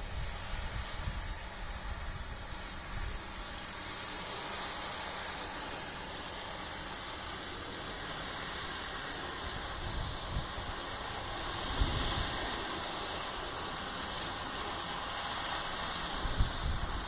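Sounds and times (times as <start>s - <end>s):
harvesting machinery hissing: 0.0s - 17.0s.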